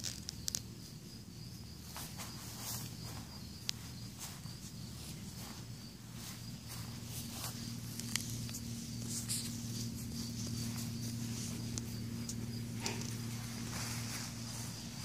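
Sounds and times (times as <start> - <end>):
light clicks and rustles in grass: 0.0 - 1.0, 1.9 - 15.0
high insect trill: 0.0 - 15.0.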